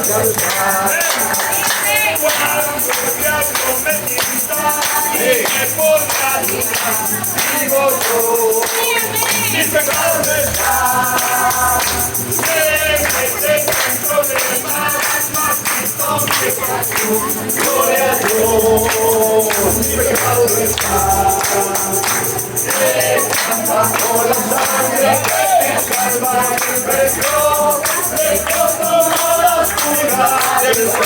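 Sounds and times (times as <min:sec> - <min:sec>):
group singing a hymn: 0:00.0 - 0:31.0
tambourine beat: 0:00.0 - 0:31.0.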